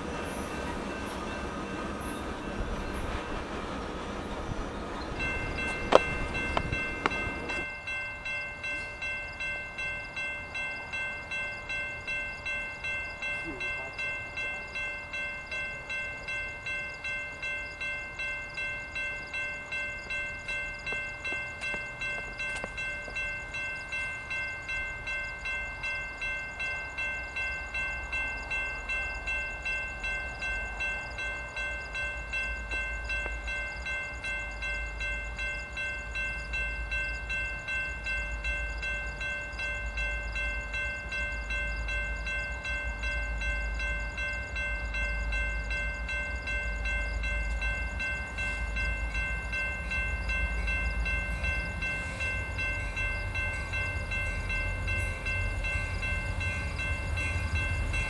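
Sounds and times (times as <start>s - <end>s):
railroad warning bell ringing: 0.0s - 58.0s
train rumble: 0.0s - 58.0s.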